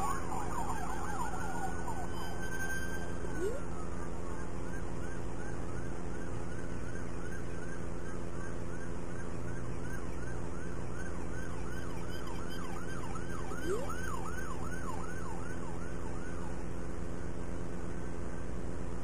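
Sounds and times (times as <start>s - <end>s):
police siren yelp: 0.0s - 16.6s
low hum: 0.0s - 19.0s.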